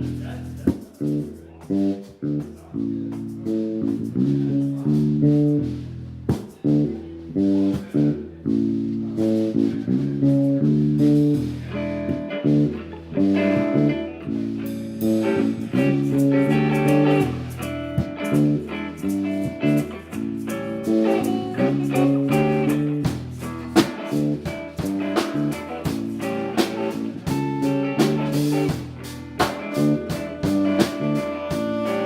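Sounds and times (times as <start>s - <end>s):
live band playing: 0.0s - 32.0s.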